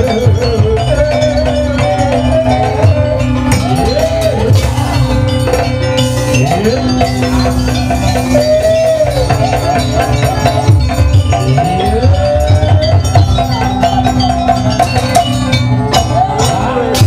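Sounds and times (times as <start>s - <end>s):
drum beats: 0.0s - 17.0s
gamelan percussion: 0.0s - 17.0s
wavering gliding melody: 0.0s - 17.0s.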